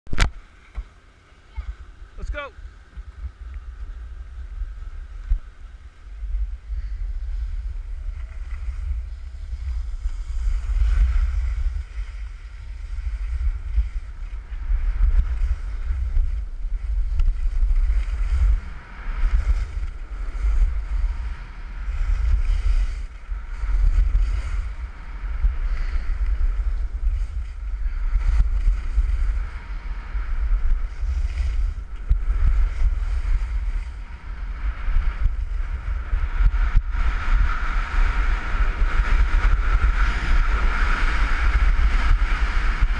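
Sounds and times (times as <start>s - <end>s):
wind buffeting microphone: 0.1s - 42.9s
skis scraping on packed snow: 6.2s - 42.9s.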